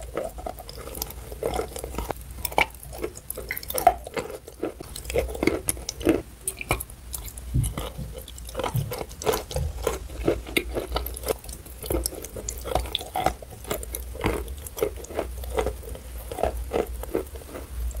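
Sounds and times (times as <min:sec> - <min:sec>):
person chewing chalk: 0:00.0 - 0:18.0.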